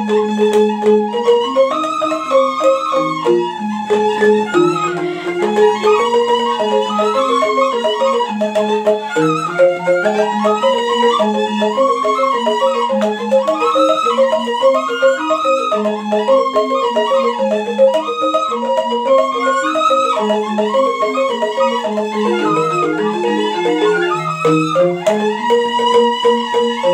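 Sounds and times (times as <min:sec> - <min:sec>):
bamboo flutes playing melody: 0:00.0 - 0:26.9
bamboo xylophones playing: 0:00.0 - 0:26.9.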